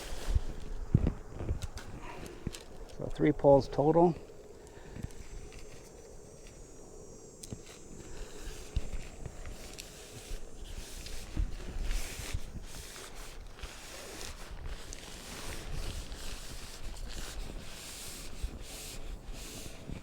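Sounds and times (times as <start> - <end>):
tent fabric rustling and scraping: 0.0 - 6.6, 7.6 - 20.0.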